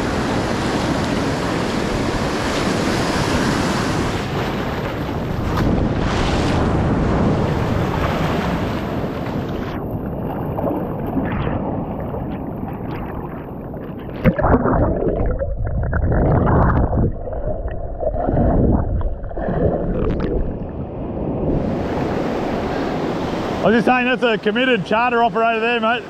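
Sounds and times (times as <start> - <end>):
muffled underwater surf rushing: 0.0 - 26.0.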